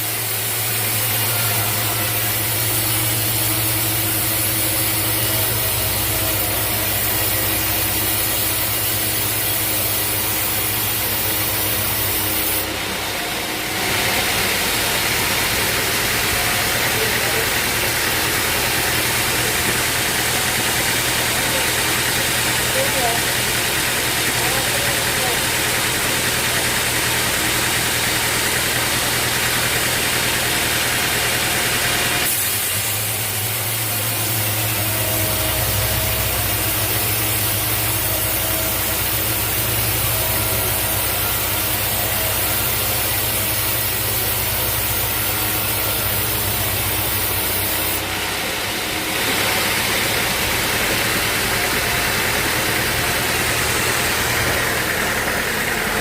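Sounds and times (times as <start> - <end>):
sawmill machinery engine running: 0.0 - 56.0.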